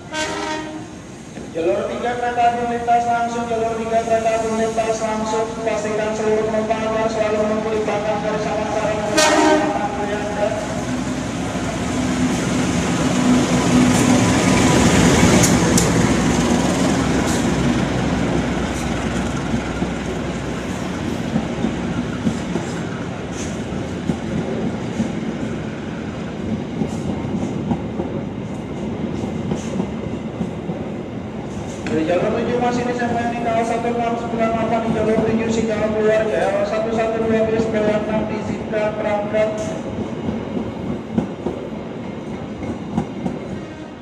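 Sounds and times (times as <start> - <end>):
diesel locomotive passing: 0.0 - 44.0
train coaches rumbling by: 0.0 - 44.0.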